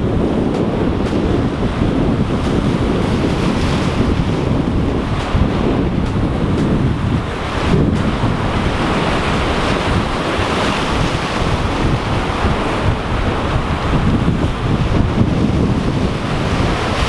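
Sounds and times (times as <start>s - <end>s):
surf breaking against rocks: 0.0s - 17.0s
wind buffeting microphone: 0.0s - 17.0s.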